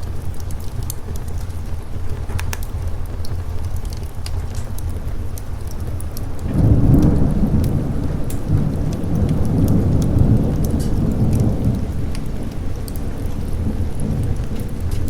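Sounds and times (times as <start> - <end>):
deep rumble of thunder: 0.0 - 15.0
sharp crackles: 0.0 - 15.0
steady rain: 0.0 - 15.0.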